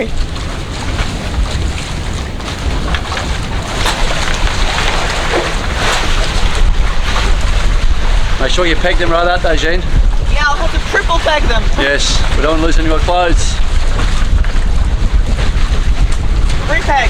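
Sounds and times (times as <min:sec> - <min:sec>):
sailboat motoring at sea: 0:00.0 - 0:17.0
wind buffeting microphone: 0:00.0 - 0:17.0.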